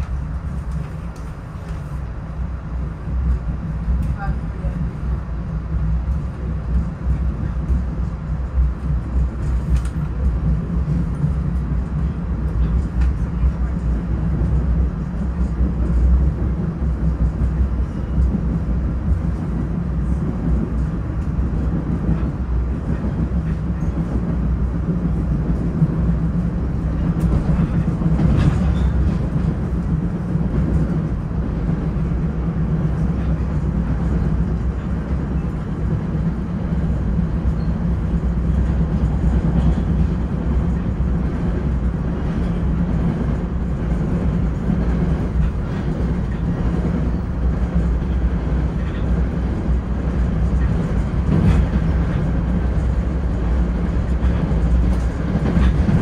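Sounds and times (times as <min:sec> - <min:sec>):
train coach rumble: 0:00.0 - 0:56.0.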